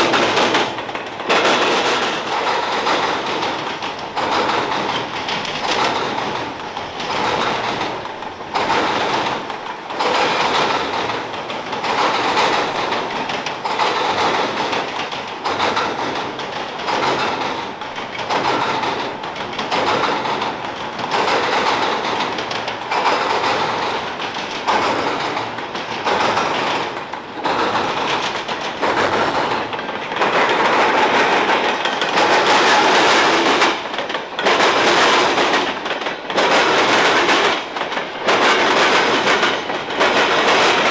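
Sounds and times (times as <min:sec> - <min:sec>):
train wheels clattering: 0:00.0 - 0:40.9.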